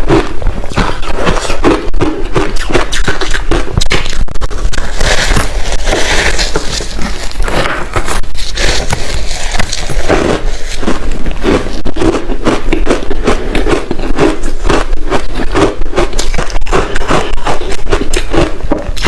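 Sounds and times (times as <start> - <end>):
ice being chewed: 0.0 - 19.0.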